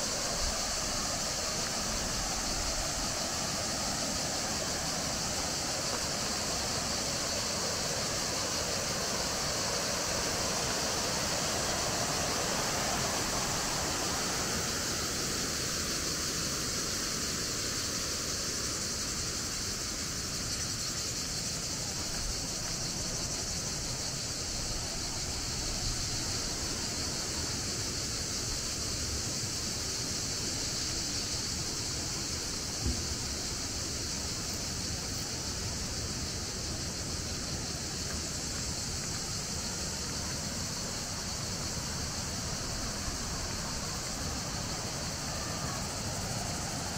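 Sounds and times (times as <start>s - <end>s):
high-pitched hiss: 0.0s - 46.9s
water rushing through sluice: 0.0s - 46.9s.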